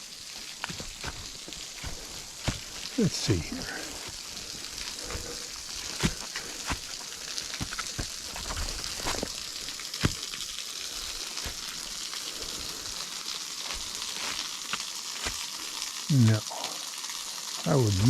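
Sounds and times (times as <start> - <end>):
small waterfall splashing: 0.0 - 18.0.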